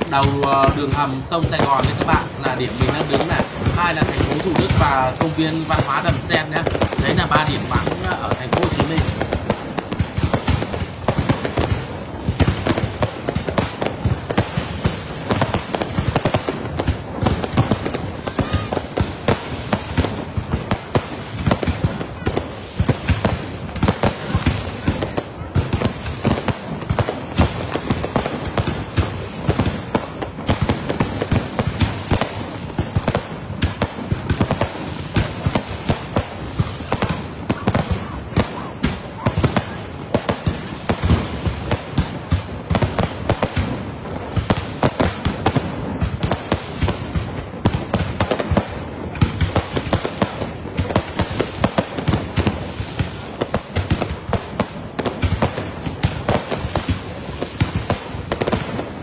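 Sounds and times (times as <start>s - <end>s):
fireworks shells bursting: 0.0s - 59.0s.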